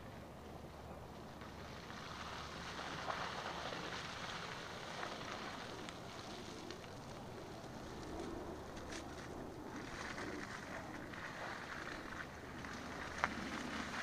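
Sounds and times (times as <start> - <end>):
faint engine hum: 0.0 - 14.0.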